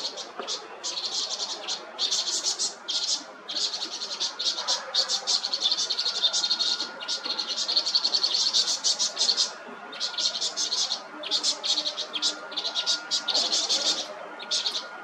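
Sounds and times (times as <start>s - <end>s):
small birds chattering alarm calls: 0.0s - 15.0s.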